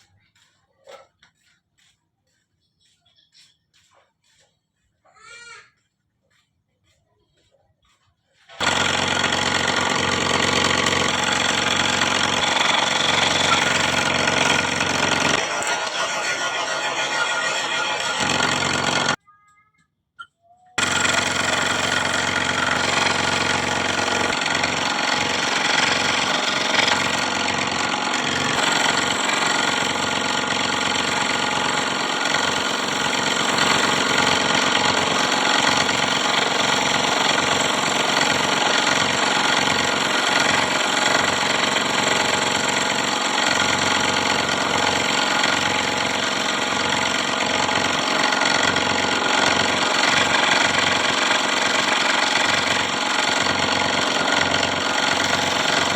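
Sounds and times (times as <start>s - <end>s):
scroll saw running: 8.4s - 19.2s, 20.8s - 55.9s.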